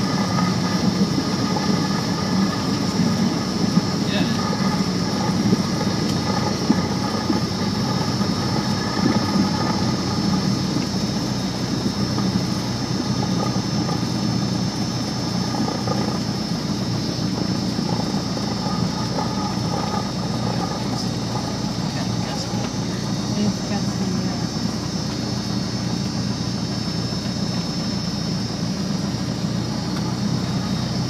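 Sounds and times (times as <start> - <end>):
constant high whine: 0.0 - 31.0
propeller plane engine drone: 0.0 - 31.0.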